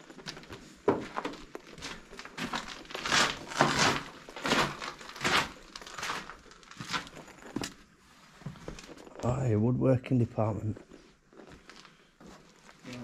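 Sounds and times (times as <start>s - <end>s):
footsteps crunching on broken glass: 0.0s - 9.4s, 10.6s - 13.0s.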